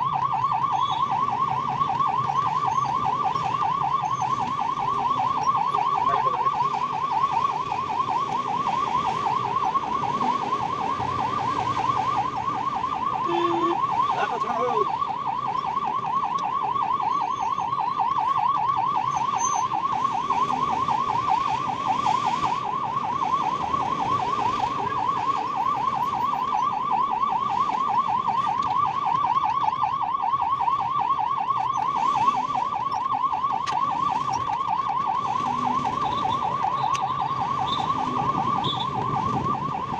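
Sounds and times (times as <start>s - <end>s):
ambulance siren warbling: 0.0s - 39.9s.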